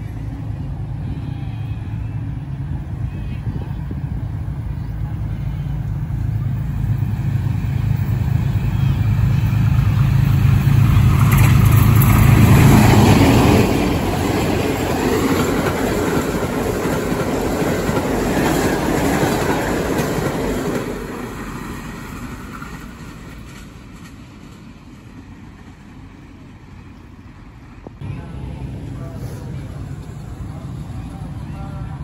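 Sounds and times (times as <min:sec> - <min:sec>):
diesel locomotive engine passing: 0:00.0 - 0:32.0
train wheels on rails: 0:05.8 - 0:32.0.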